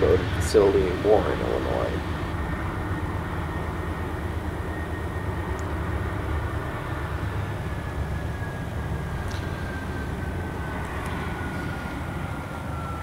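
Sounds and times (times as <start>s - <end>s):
high whine falling in pitch: 0.0s - 13.0s
locomotive engine rumble: 0.0s - 13.0s.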